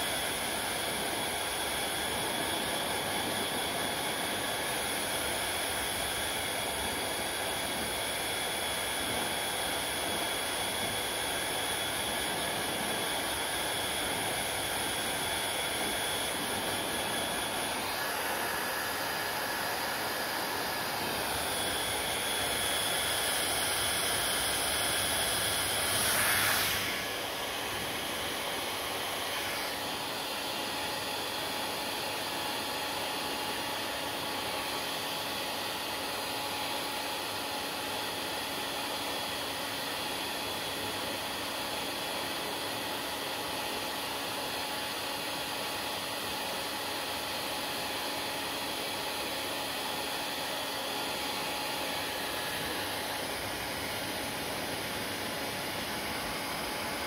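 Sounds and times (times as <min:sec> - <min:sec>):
fan motor whine: 0:00.0 - 0:57.0
hair dryer blowing: 0:00.0 - 0:57.0.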